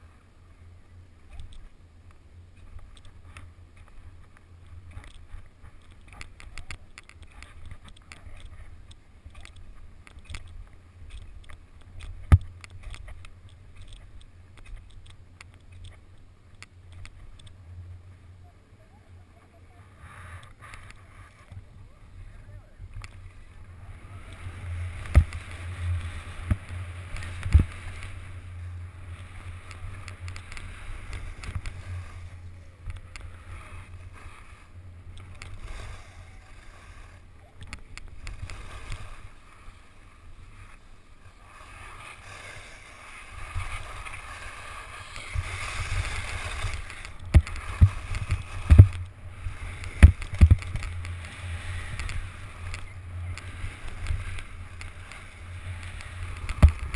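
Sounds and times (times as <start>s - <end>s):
wind rumble on microphone: 0.0s - 56.9s
skis scraping over snow: 2.5s - 16.2s, 18.8s - 56.9s.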